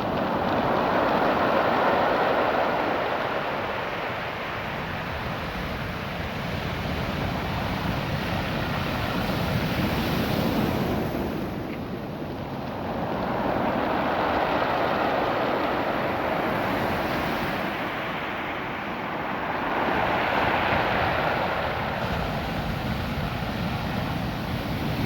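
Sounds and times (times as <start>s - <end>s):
waves washing over pebbles: 0.0s - 25.0s.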